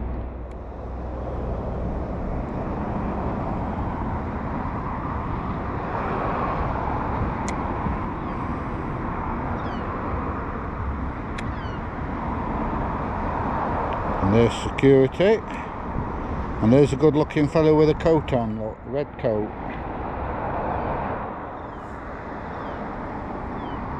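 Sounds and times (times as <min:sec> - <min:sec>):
road traffic: 0:00.0 - 0:23.9.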